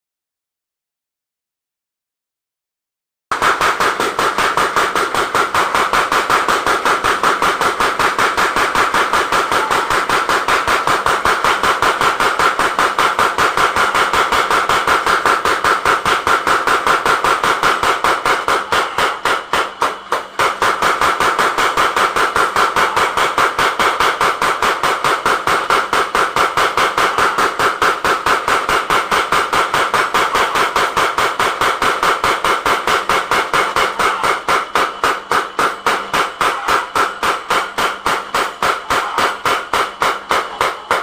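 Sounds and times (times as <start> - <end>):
power hammer striking: 3.3 - 41.0.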